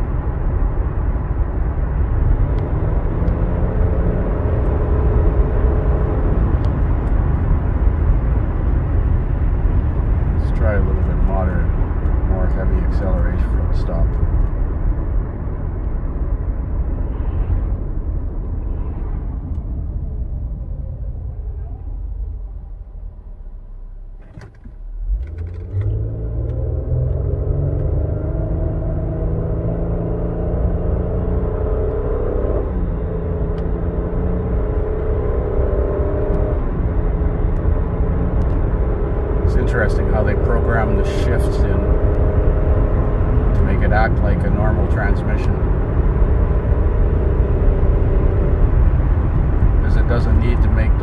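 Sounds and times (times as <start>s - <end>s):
road and tyre noise in car: 0.0s - 51.0s.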